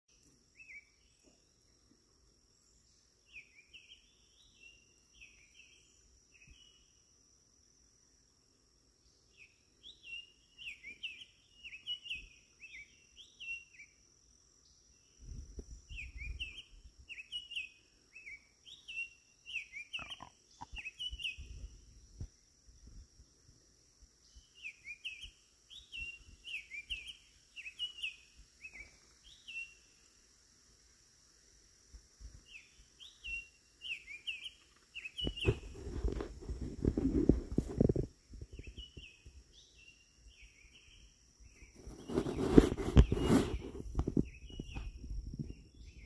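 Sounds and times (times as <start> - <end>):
songbird chirping: 0.1 - 46.0.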